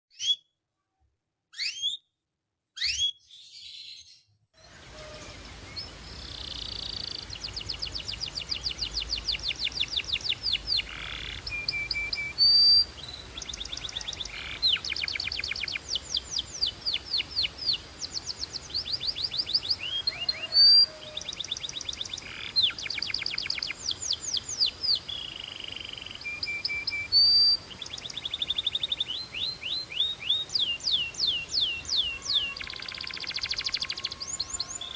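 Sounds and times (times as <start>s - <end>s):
canary singing trills: 1.5s - 2.0s, 2.8s - 34.9s.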